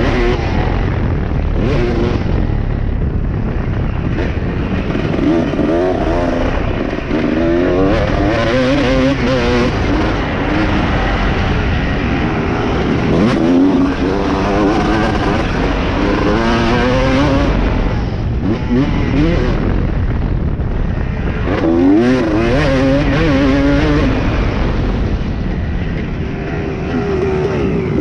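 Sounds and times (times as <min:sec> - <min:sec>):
motocross bike engine revving: 0:00.0 - 0:02.8, 0:03.4 - 0:20.7, 0:21.4 - 0:25.3
wind rushing: 0:00.0 - 0:28.0.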